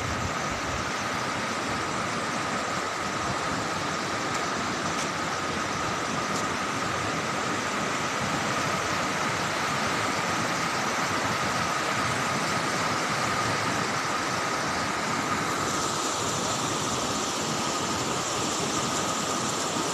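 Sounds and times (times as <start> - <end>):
flooded river rushing: 0.0 - 19.9.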